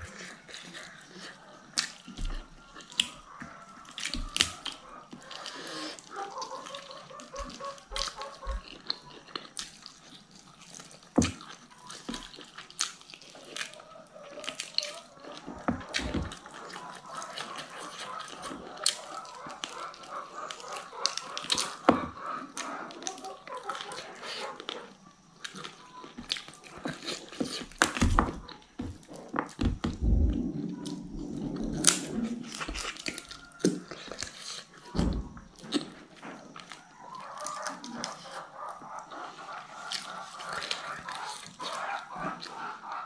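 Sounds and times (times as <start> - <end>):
wet chewing and lip smacks: 0.0 - 30.2, 31.8 - 43.0.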